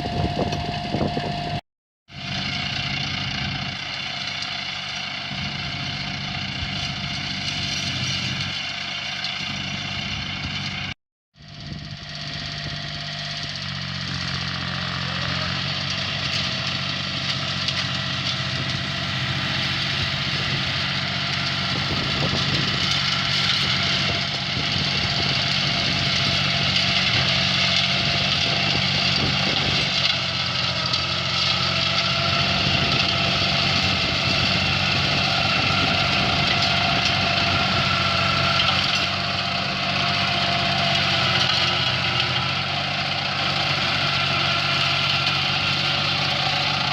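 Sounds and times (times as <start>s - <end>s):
engine running with whine: 0.0s - 46.9s.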